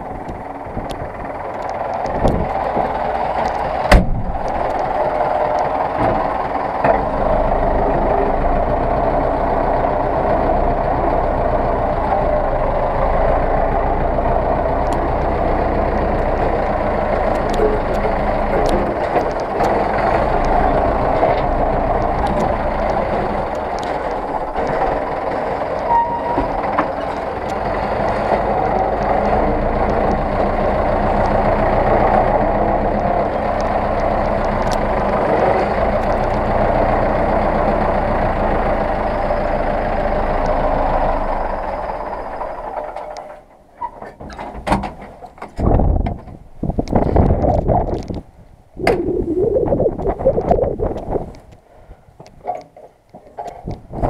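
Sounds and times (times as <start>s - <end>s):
tractor diesel engine running: 0.0s - 44.4s.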